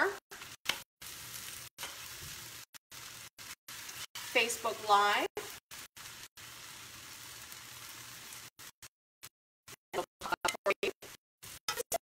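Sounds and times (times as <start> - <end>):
noodles sizzling in a pan: 0.0 - 8.9, 9.7 - 12.0.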